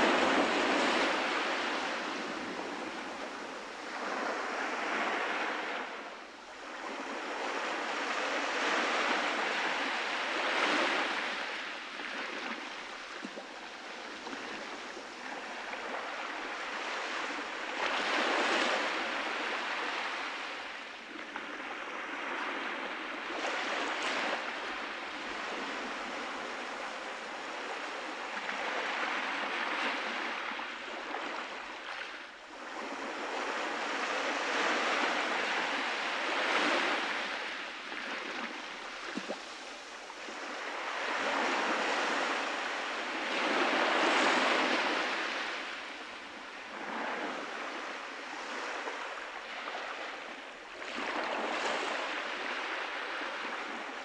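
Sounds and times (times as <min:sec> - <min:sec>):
small waves breaking on sand: 0:00.0 - 0:54.0.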